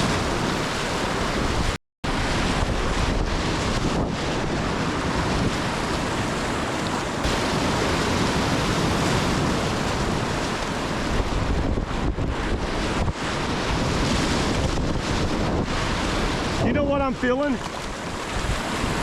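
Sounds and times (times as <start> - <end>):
roar of churning whitewater: 0.0 - 19.0
wind buffeting microphone: 0.0 - 19.0.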